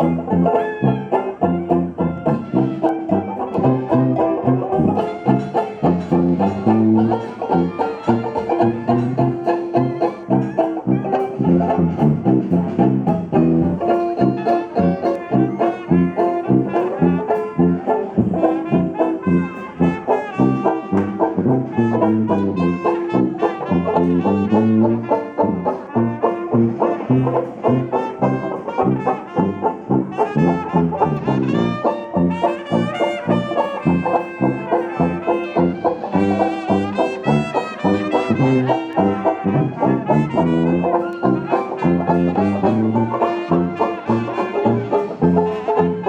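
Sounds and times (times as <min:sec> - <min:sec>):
steady beat: 0:00.0 - 0:45.4
trombone: 0:00.0 - 0:46.0
trumpet: 0:00.0 - 0:46.0.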